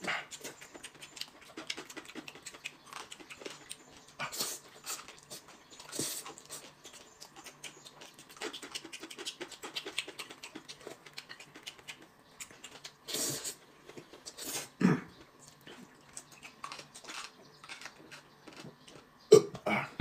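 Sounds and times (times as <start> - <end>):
person chewing: 0.0 - 19.6.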